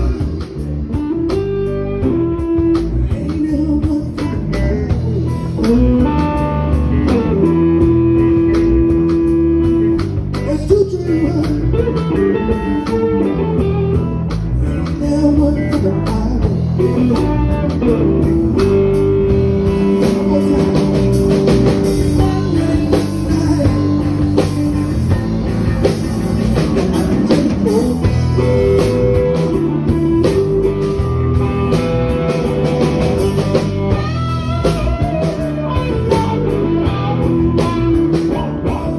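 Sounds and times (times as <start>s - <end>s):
blues band with drums: 0.0s - 38.9s
electric guitar bending notes: 0.0s - 38.9s.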